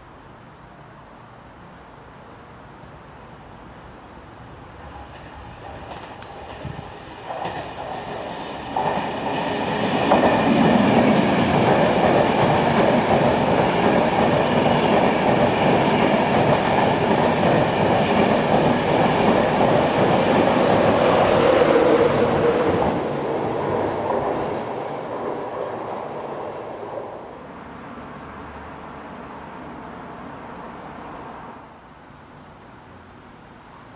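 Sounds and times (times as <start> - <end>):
train rumbling past: 4.3 - 31.8.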